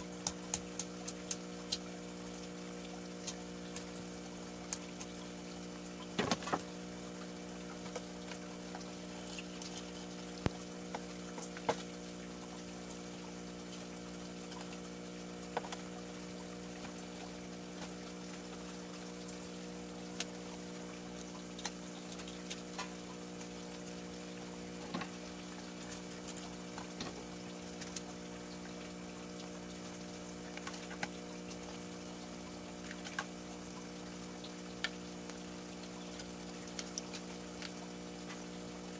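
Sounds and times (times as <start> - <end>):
electric pump hum: 0.0 - 38.9.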